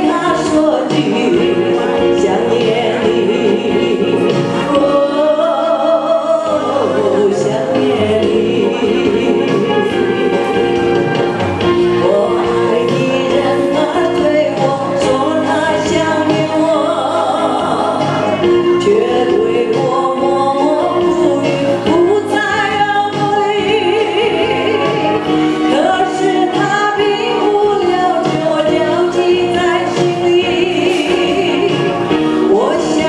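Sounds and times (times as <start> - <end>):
instrumental accompaniment: 0.0 - 33.0
woman singing into microphone: 0.0 - 33.0.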